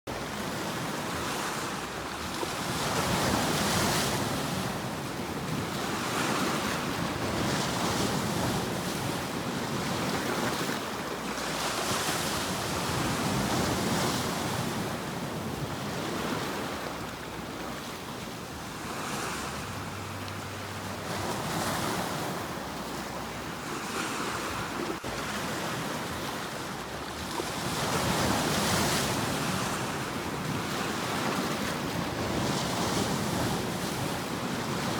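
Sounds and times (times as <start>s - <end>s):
sea waves breaking: 0.1s - 34.9s.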